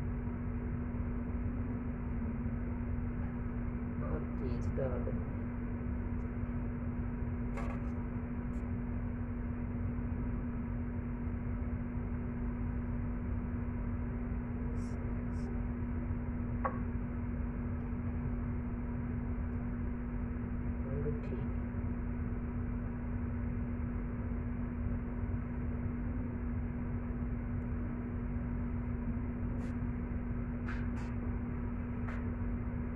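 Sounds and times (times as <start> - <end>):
steady machine hum: 0.0 - 32.9.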